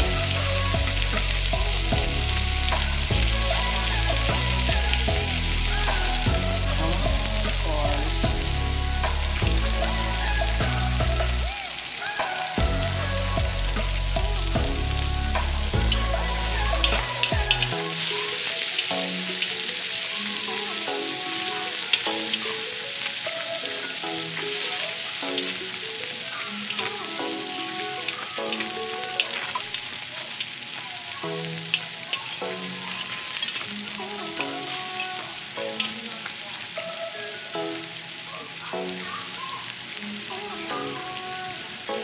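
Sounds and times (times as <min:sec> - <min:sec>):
background music: 0:00.0 - 0:42.0
butter and garlic sizzling: 0:00.0 - 0:42.0.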